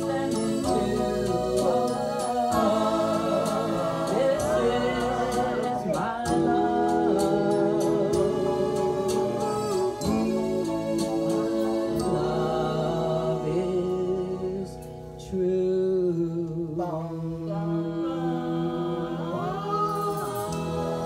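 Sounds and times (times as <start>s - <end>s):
group of voices singing in harmony: 0.0s - 15.4s, 16.8s - 21.0s.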